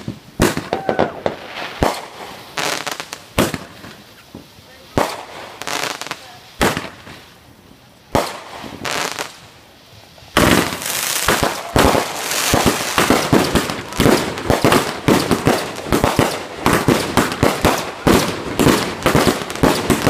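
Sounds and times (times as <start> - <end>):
fireworks cracking and popping: 0.0 - 20.0.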